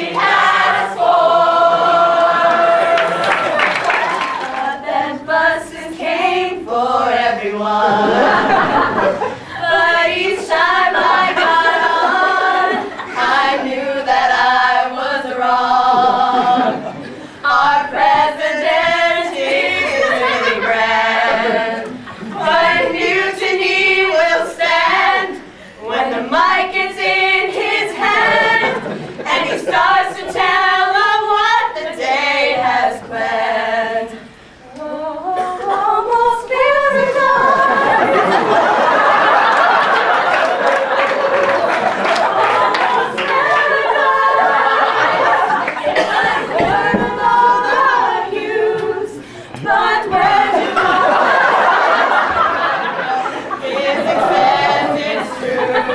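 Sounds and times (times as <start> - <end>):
group singing a cappella: 0.0 - 55.9.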